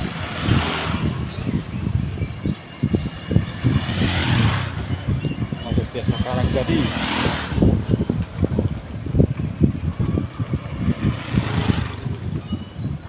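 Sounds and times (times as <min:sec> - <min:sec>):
motor scooter passing: 0:00.0 - 0:05.6, 0:06.2 - 0:12.9
wind buffeting microphone: 0:00.0 - 0:13.0.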